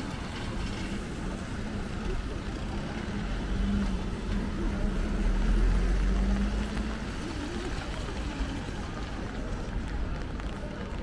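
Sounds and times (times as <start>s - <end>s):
vehicle engine rumble passing: 0.0s - 9.7s
traffic noise: 0.0s - 11.0s.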